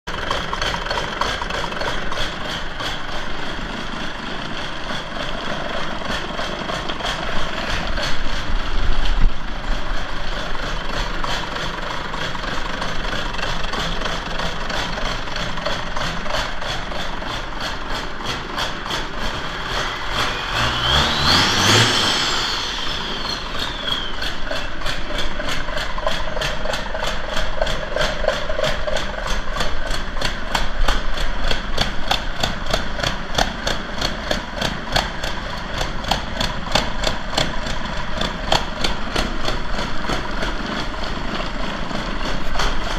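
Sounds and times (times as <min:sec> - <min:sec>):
diesel engine idling and revving: 0:00.1 - 0:42.9
high engine whine: 0:00.1 - 0:42.9.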